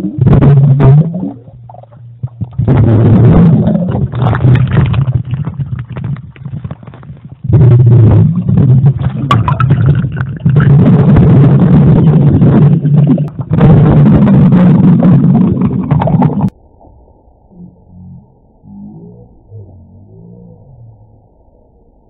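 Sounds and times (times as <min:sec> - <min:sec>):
distorted underwater splashing: 0:00.0 - 0:21.5.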